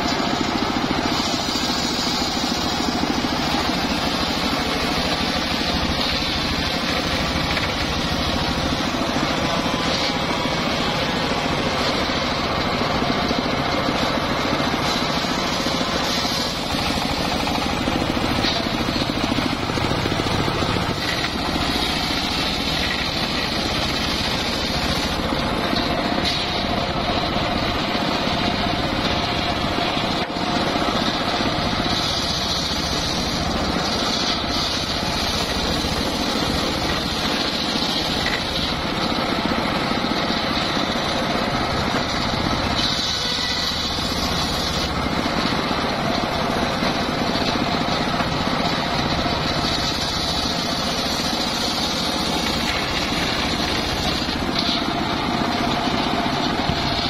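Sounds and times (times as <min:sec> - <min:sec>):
circular saw ripping through log: 0:00.0 - 0:57.0.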